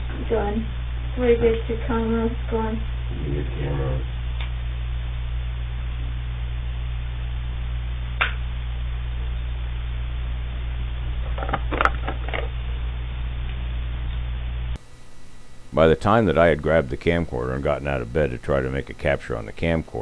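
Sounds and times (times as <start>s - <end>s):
low electrical hum with hiss: 0.0s - 20.0s.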